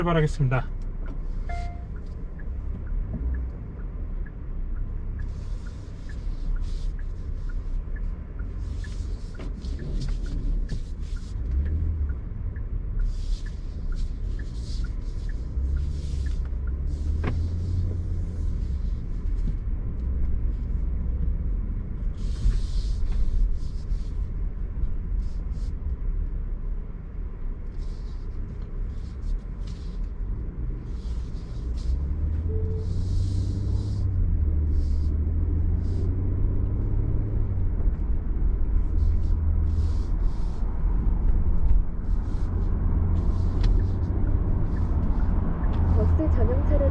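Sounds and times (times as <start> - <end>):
car cabin road rumble: 0.0 - 46.9.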